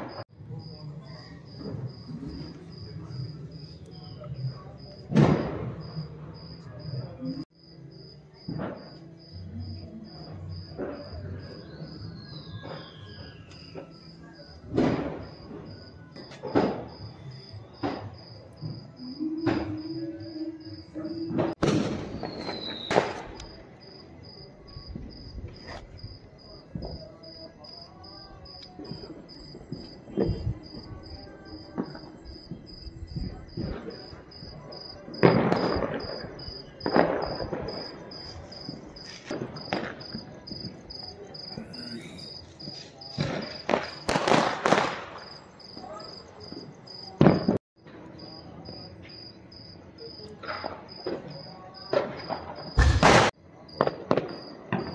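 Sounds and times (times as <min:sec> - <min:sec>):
crickets chirping: 0:00.0 - 0:54.9
firecrackers banging: 0:04.5 - 0:06.9, 0:08.4 - 0:09.4, 0:10.2 - 0:27.8, 0:28.5 - 0:48.1, 0:50.3 - 0:54.9.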